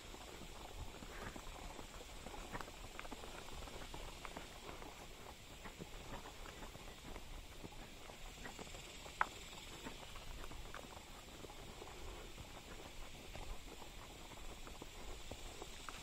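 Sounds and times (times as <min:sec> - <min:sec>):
horse hooves on dirt trail: 0:00.0 - 0:16.0.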